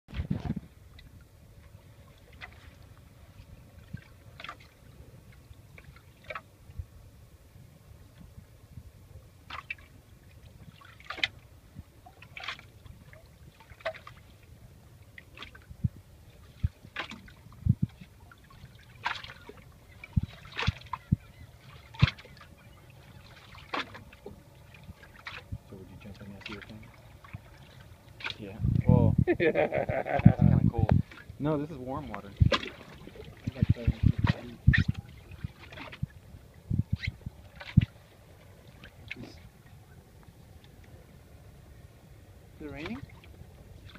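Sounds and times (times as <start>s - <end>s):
water splashes and drips: 0.1s - 6.8s, 9.4s - 28.5s, 30.8s - 41.0s, 42.6s - 43.9s
water lapping against boat hull: 0.1s - 43.9s.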